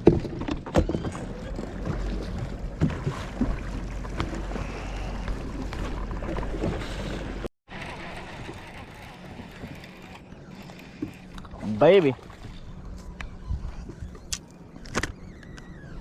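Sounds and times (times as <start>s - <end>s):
boat engine low hum: 0.0s - 16.0s.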